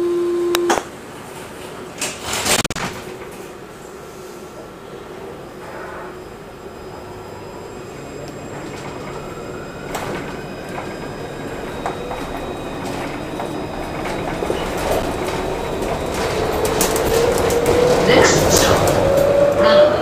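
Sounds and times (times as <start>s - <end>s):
tram running noise: 0.6s - 20.0s.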